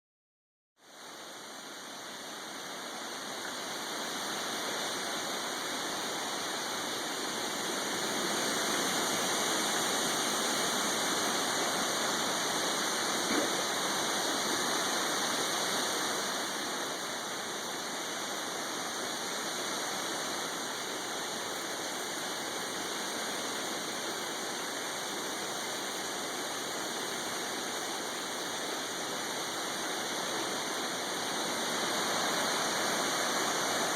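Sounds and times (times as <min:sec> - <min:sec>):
water rushing: 0:00.8 - 0:33.9.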